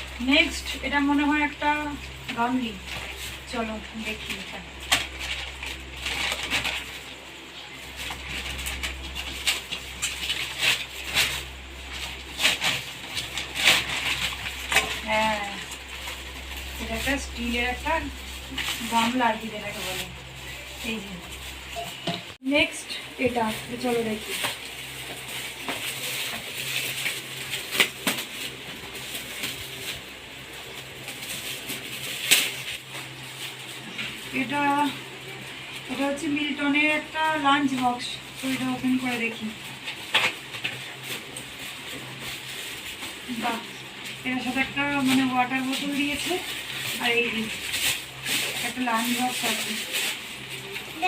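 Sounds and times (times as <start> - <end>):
packaging crinkling and rustling: 0.0 - 51.0.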